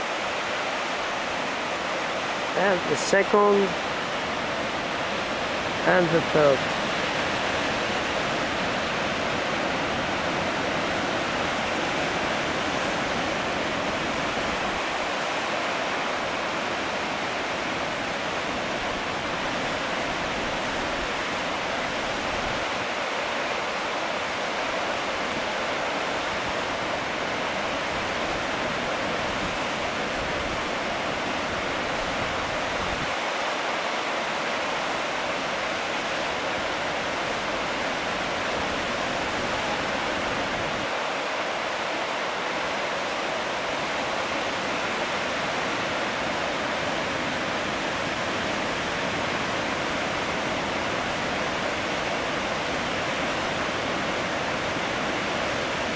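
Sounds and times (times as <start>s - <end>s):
rush of falling water: 0.0s - 55.9s.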